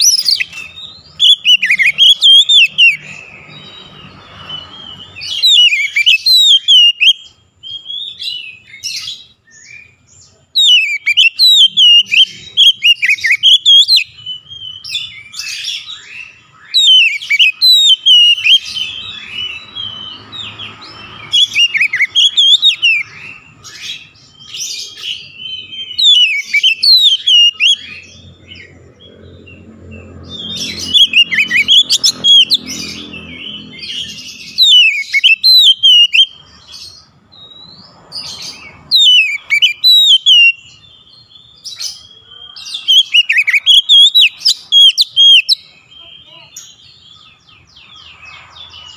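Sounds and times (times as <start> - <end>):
bird singing whistled notes: 0.0 - 48.9.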